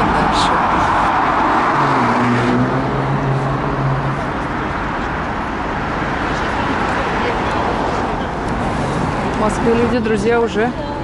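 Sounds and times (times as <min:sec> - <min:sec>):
city road traffic: 0:00.0 - 0:11.0
vehicle engine humming: 0:00.0 - 0:11.0.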